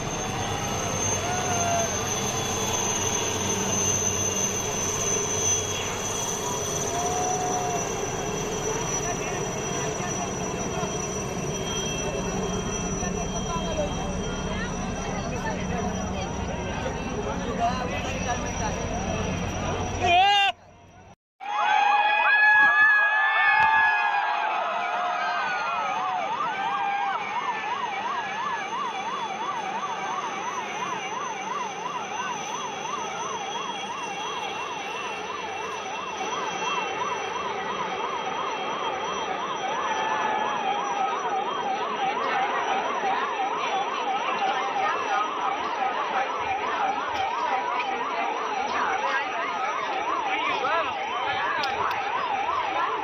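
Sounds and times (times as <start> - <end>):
emergency siren warbling yelp: 0.0 - 20.5, 21.4 - 53.0.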